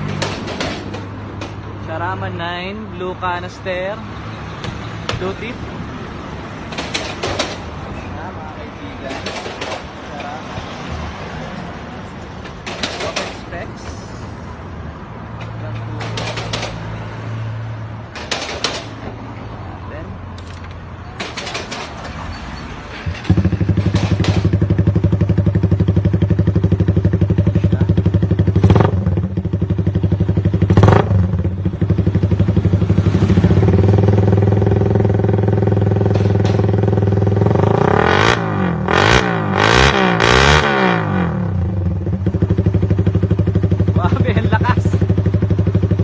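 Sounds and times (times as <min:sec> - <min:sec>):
motorcycle engine idling and revving: 0:00.0 - 0:19.2, 0:19.9 - 0:46.0.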